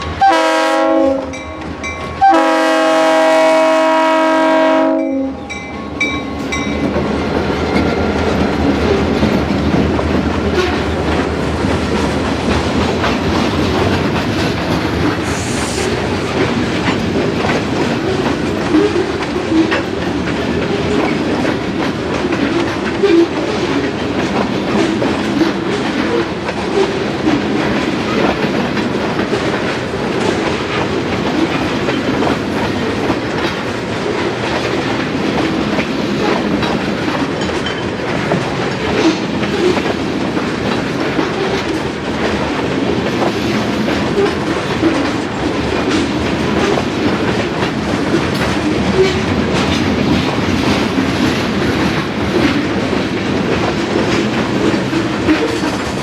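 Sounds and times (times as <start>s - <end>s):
freight train rumbling past: 0.0s - 56.0s
wheels clicking over rail joints: 5.5s - 56.0s.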